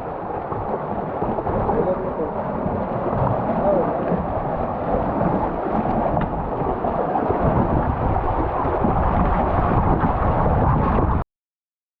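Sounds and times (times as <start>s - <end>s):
rain and wind rushing: 0.0s - 11.2s.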